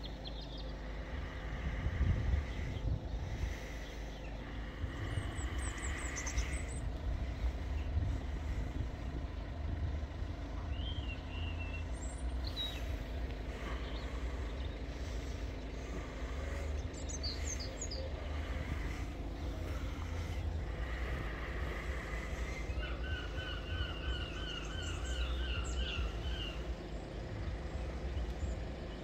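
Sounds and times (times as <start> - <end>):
bird chirps: 0.0 - 1.5, 3.6 - 7.0, 10.5 - 29.0
low outdoor rumble: 0.0 - 29.0.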